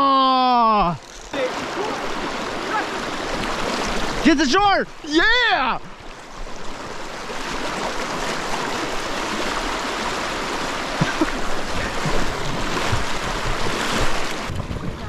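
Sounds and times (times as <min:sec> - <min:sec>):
river water rushing: 0:01.3 - 0:15.0.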